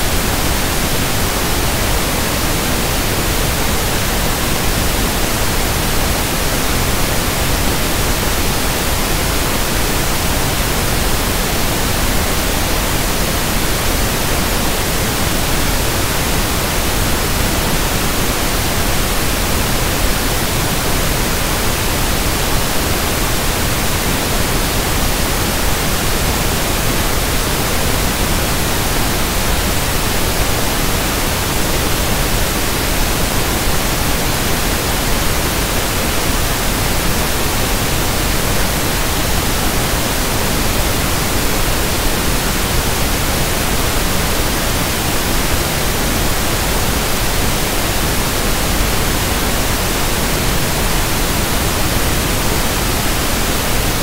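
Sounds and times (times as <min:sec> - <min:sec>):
pink noise hiss: 0:00.0 - 0:54.0.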